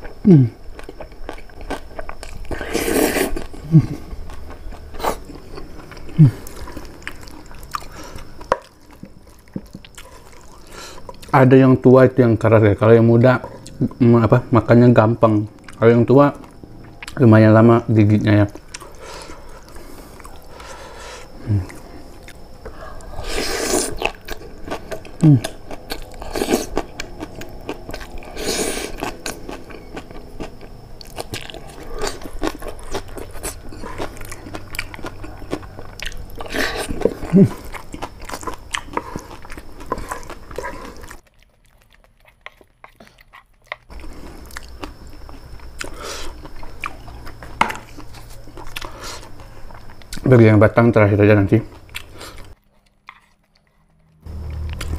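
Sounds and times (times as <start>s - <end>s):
close chewing and crunching: 0.0s - 54.9s.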